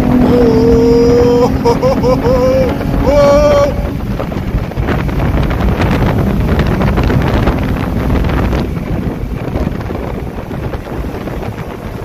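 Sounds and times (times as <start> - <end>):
car exhaust roar: 0.0 - 12.0
wind buffeting microphone: 0.0 - 12.0.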